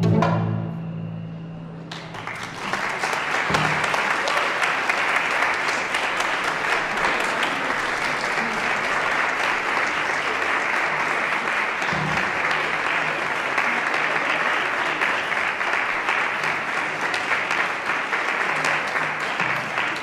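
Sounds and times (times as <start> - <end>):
audience applause: 1.9 - 20.0.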